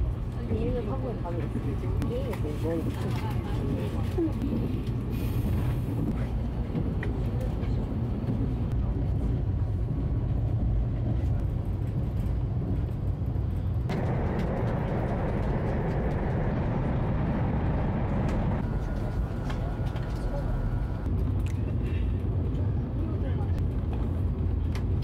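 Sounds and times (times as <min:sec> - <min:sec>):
vehicle rumble from inside: 0:00.1 - 0:25.0.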